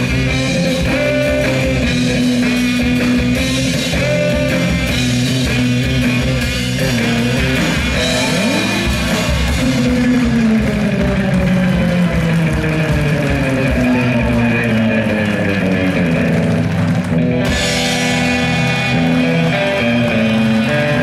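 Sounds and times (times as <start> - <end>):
electric guitar: 0.0 - 21.0
live band music: 0.0 - 21.0.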